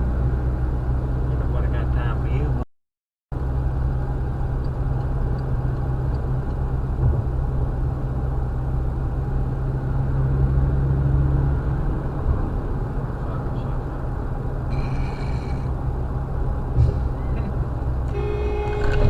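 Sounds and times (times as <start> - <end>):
car engine rumble: 0.0 - 2.6, 3.3 - 19.0
road noise inside car: 0.0 - 2.6, 3.3 - 19.0.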